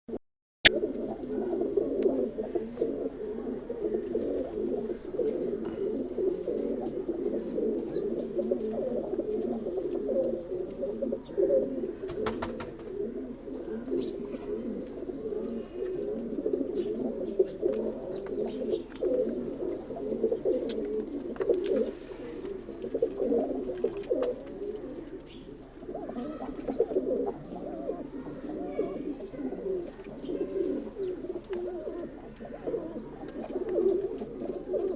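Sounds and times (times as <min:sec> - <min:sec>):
pigeons cooing: 0:00.7 - 0:34.9.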